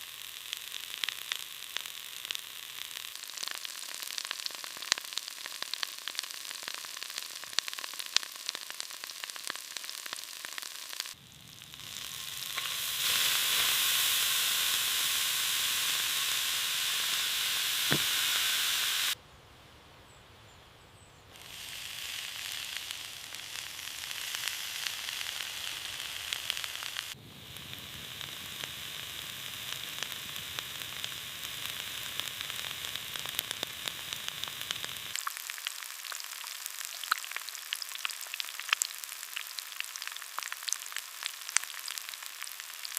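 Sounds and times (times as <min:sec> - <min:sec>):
food sizzling in a pan: 0:00.0 - 0:19.2, 0:21.4 - 0:42.9.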